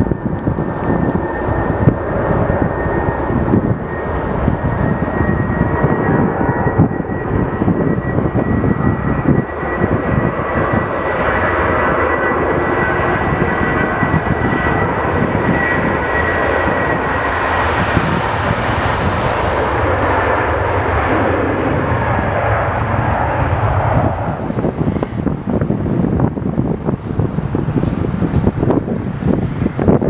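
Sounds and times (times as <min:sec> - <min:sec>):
jet engine high whine: 0:00.0 - 0:30.0
jet engine rush: 0:00.0 - 0:30.0.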